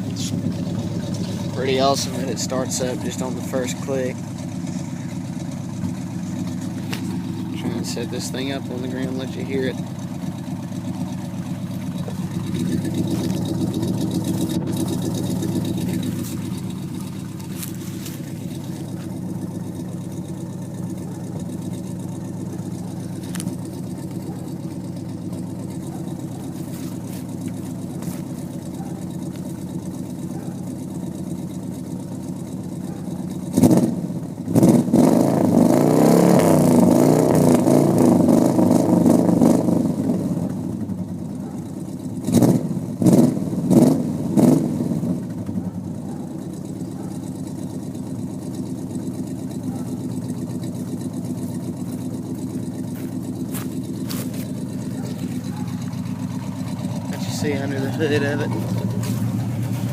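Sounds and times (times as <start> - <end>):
car engine idling: 0.0 - 59.9
car engine revving: 0.0 - 59.9.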